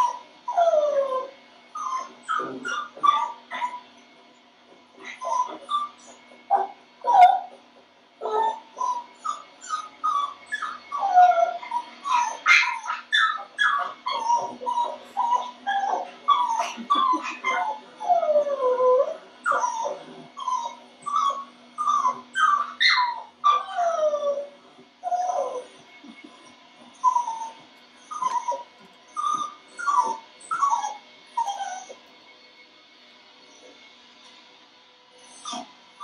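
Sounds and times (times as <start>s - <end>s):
dog whining: 0.0s - 4.0s, 5.0s - 32.1s, 35.2s - 36.0s.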